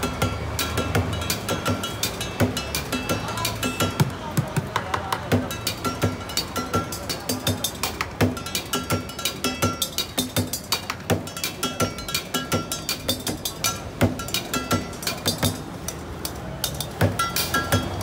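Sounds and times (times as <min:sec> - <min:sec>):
cymbals ringing: 0:00.0 - 0:04.0, 0:05.4 - 0:18.0
drumming on pots and buckets: 0:00.0 - 0:18.0.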